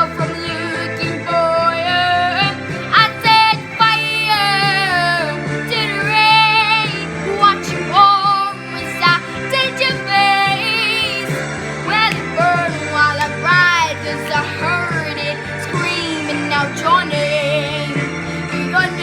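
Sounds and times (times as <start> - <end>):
girl singing: 0.0 - 19.0
pop backing track: 0.0 - 19.0.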